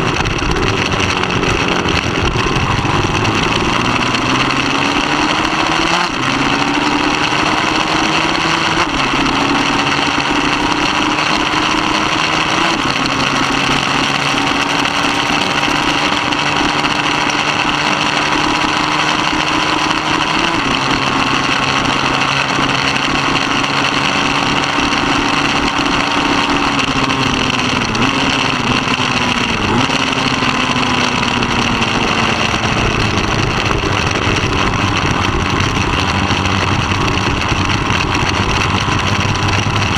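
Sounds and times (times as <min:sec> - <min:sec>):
motorcycle engine at high revs: 0:00.0 - 0:39.9
wind noise: 0:00.0 - 0:39.9.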